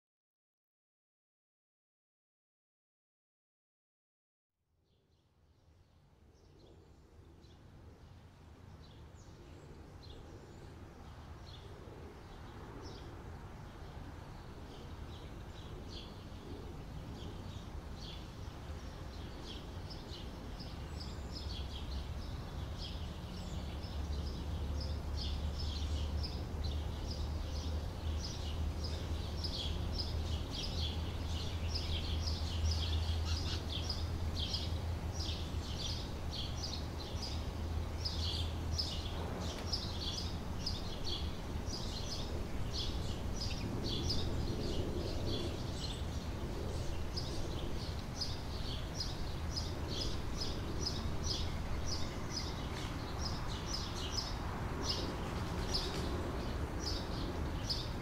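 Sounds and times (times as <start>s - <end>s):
small birds chirping: 4.9s - 58.0s.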